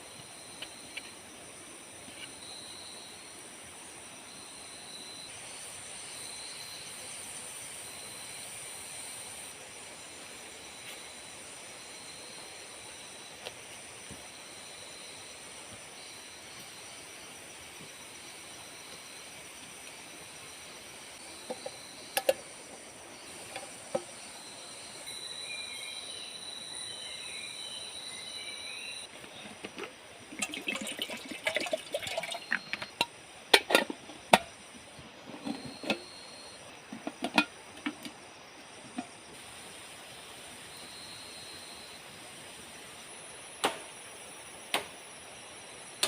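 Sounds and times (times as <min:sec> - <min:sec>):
insect chirps: 0:00.0 - 0:46.0
insects droning: 0:00.0 - 0:46.0.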